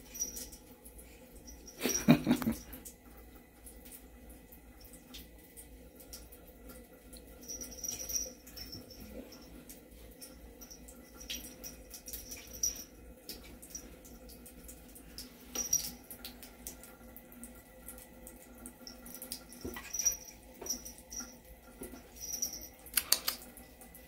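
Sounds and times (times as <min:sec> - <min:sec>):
water running from tap: 0:00.0 - 0:24.0.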